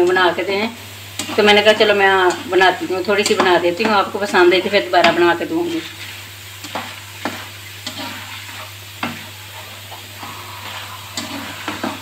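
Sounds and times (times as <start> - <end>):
dough deep-frying in oil: 0.0 - 12.0
spoon scraping and knocking pan: 1.2 - 4.4, 5.0 - 12.0.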